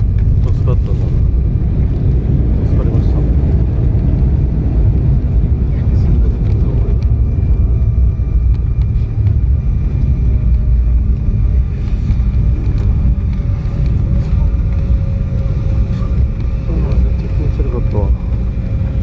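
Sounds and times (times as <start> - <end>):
faint jet whine: 0.0 - 19.0
low rumble of landing jet: 0.0 - 19.0.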